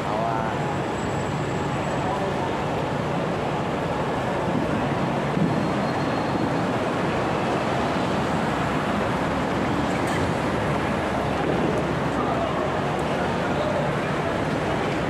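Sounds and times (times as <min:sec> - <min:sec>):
traffic: 0:00.0 - 0:15.0.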